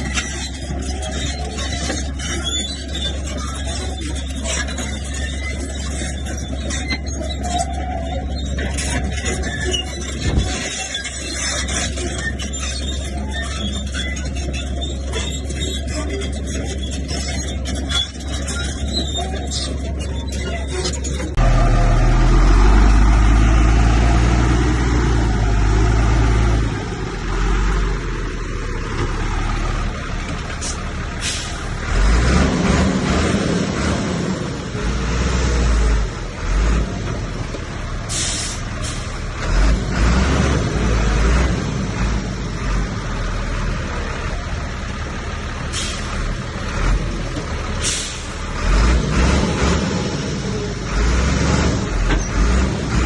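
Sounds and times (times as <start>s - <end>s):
heavy diesel engines rumbling: 0.0s - 53.0s.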